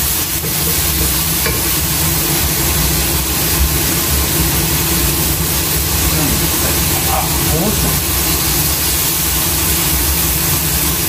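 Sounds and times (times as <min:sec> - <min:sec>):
range hood fan humming: 0:00.0 - 0:11.0.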